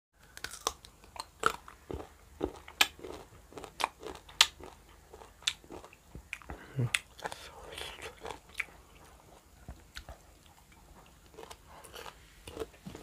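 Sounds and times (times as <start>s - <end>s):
crunchy food chewing: 0.2s - 13.0s.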